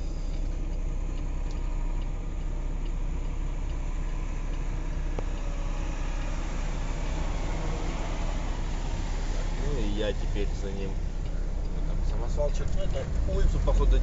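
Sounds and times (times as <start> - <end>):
truck diesel engine idling: 0.0 - 14.0.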